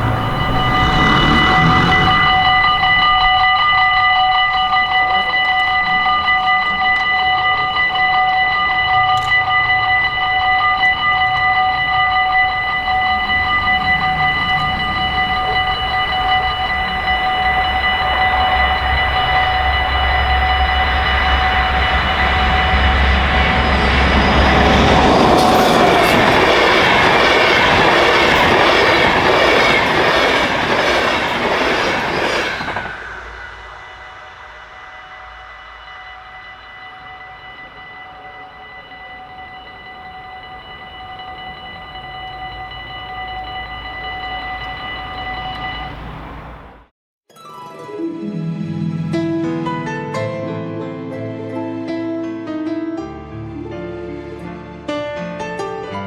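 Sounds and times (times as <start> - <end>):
level-crossing warning bells: 0.0 - 46.9
train rumbling past on rails: 0.0 - 46.9.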